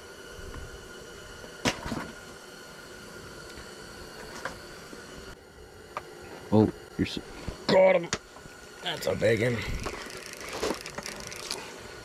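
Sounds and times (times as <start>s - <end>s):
steady hiss with faint hum: 0.0s - 12.0s.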